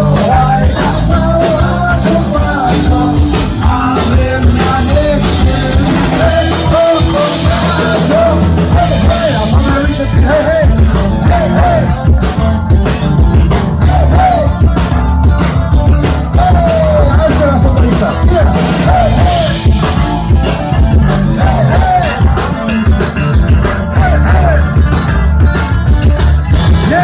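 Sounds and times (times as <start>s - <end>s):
person singing: 0.0s - 12.6s, 13.7s - 27.0s
punk rock band playing loudly: 0.0s - 27.0s.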